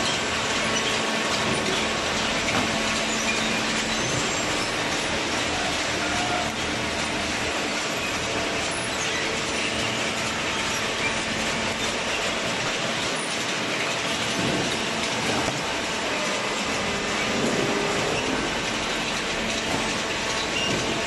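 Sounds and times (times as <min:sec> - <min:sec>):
chain conveyor rattling and humming: 0:00.0 - 0:21.0.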